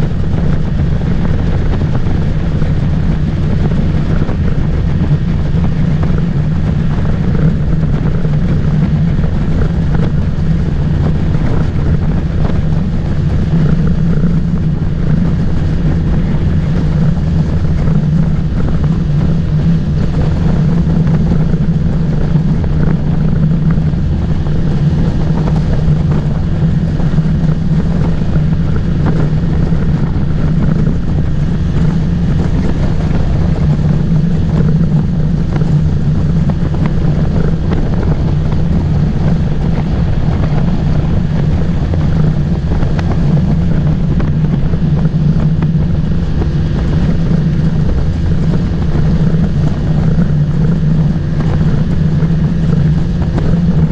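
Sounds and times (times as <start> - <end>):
motorboat engine droning: 0.0 - 53.9
wind buffeting microphone: 0.0 - 53.9.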